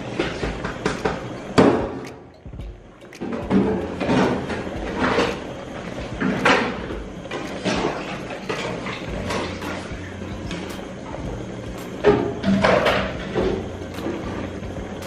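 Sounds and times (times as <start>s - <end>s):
soup bubbling at a boil: 0.0s - 15.0s.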